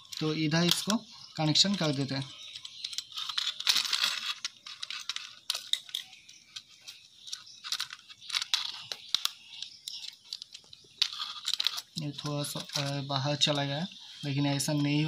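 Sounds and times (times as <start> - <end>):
hands handling plastic and wires: 0.0 - 15.0.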